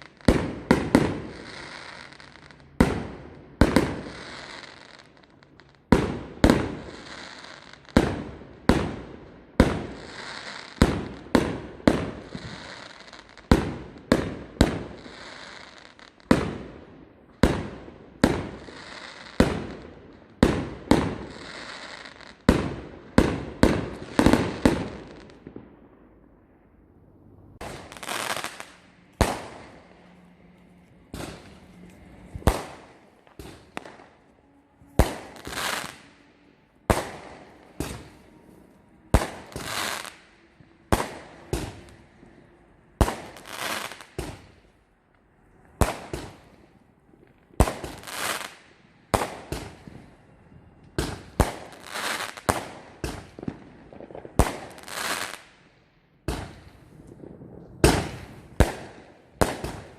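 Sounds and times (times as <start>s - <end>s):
fireworks bangs: 0.0s - 26.3s, 27.6s - 44.7s, 45.6s - 59.9s.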